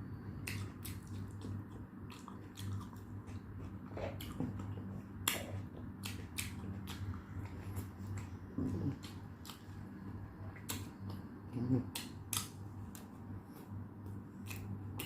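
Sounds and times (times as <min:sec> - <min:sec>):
low steady hum: 0:00.0 - 0:15.0
wet chewing and mouth smacks: 0:00.4 - 0:09.9, 0:10.5 - 0:15.0.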